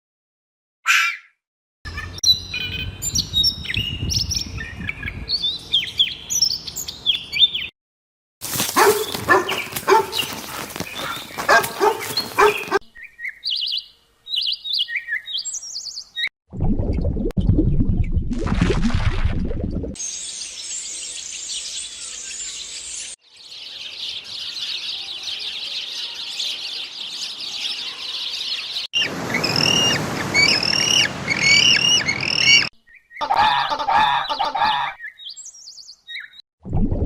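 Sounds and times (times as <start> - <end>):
many birds chirping: 1.9 - 7.7, 8.8 - 16.3, 20.1 - 36.4.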